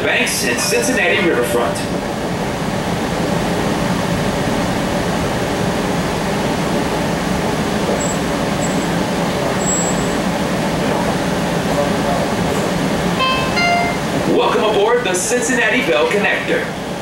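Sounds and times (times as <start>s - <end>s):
streetcar interior running noise: 0.0s - 17.0s.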